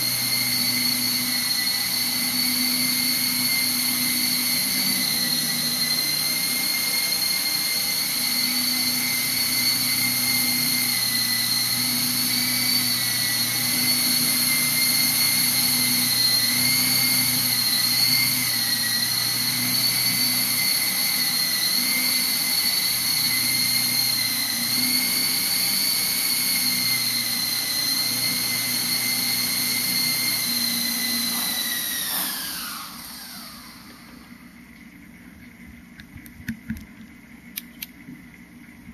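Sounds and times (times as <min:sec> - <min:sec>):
toy helicopter rotor whining: 0:00.0 - 0:34.6.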